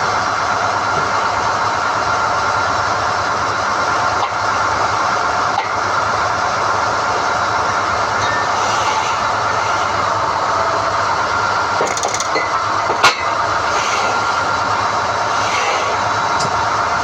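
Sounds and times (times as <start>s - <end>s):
drilling rig running: 0.0s - 17.0s.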